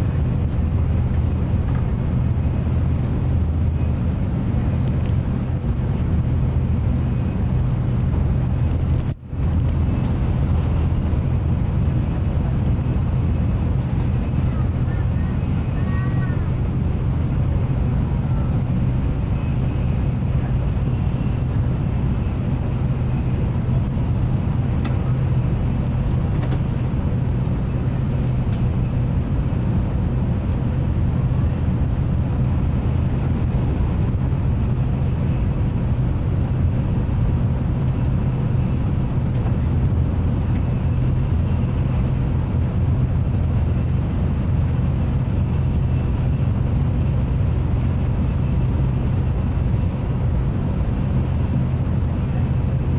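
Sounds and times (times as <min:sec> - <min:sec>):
train rumble inside cabin: 0:00.0 - 0:52.9.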